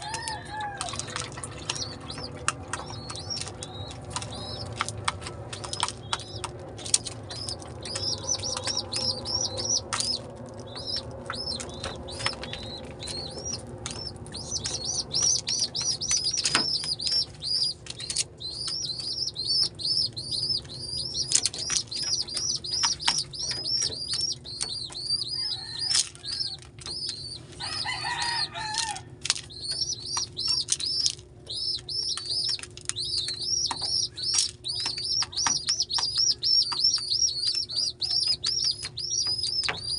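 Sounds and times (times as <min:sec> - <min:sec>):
squabs begging peeps: 0:00.0 - 0:39.9.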